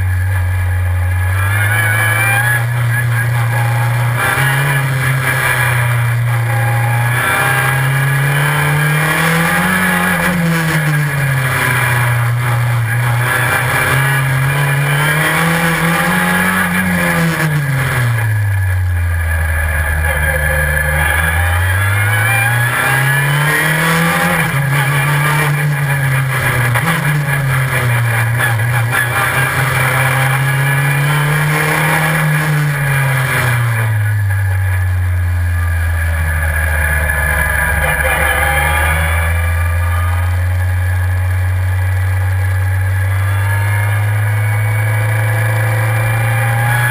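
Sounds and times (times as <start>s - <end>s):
racing car engine revving: 0.0s - 46.9s.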